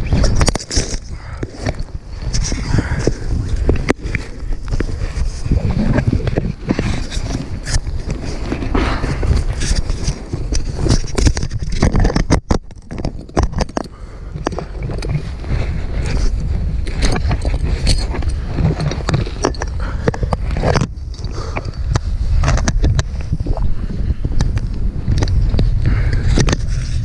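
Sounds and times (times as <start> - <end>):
gear rustling against dry grass: 0.0 - 27.0
wind buffeting microphone: 0.0 - 27.0.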